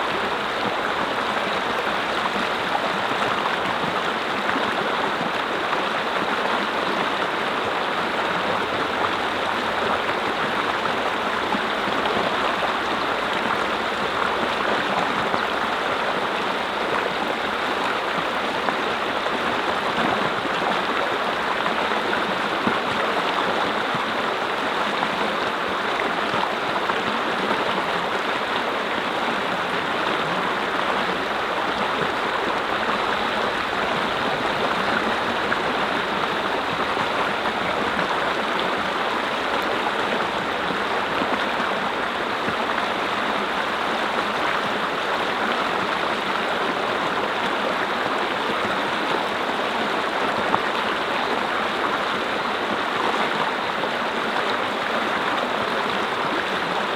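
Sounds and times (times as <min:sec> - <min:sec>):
water flowing over rocks: 0:00.0 - 0:56.9.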